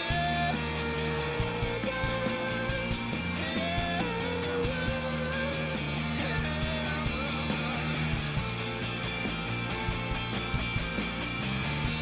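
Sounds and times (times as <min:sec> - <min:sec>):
live blues band: 0:00.0 - 0:12.0.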